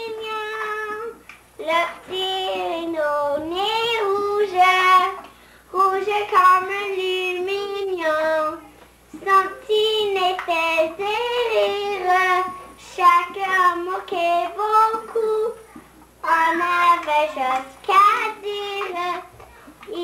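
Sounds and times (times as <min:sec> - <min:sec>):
girl singing unaccompanied: 0:00.0 - 0:20.0.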